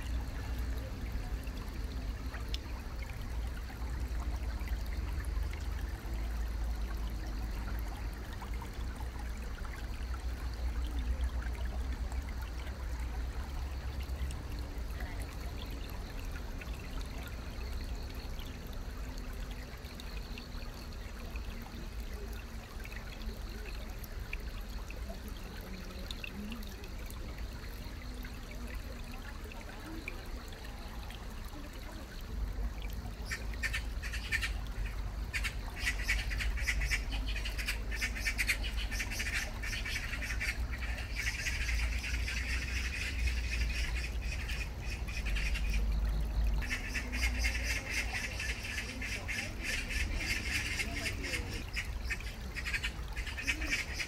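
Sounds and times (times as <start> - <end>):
stream trickling over pebbles: 0.0 - 54.0.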